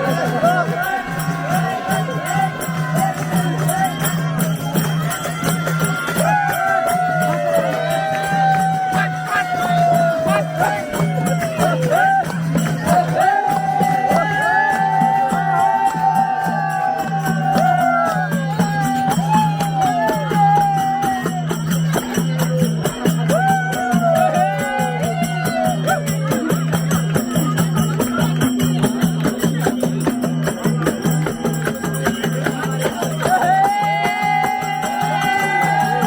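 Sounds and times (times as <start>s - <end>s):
jingling shaken percussion: 0.0s - 36.0s.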